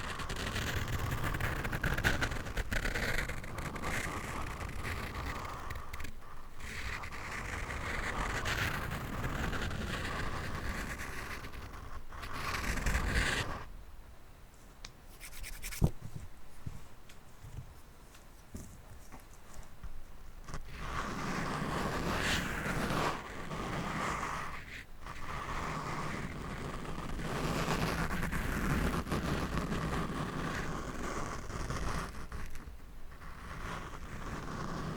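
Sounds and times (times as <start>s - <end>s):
scratching on microphone: 0.0s - 13.7s, 15.1s - 16.9s, 20.4s - 34.9s.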